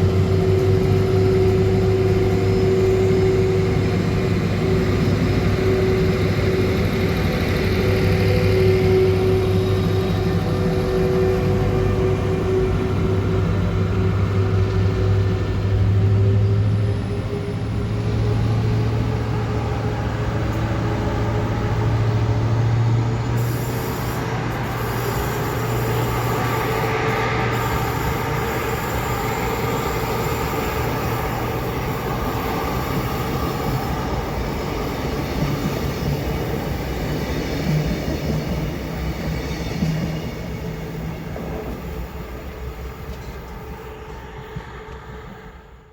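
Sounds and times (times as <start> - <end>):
train running: 0.0 - 45.9.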